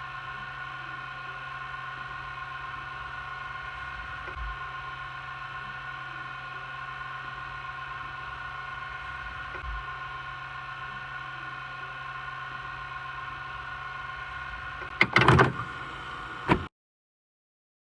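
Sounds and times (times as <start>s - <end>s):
vcr whirring hum: 0.0s - 16.7s.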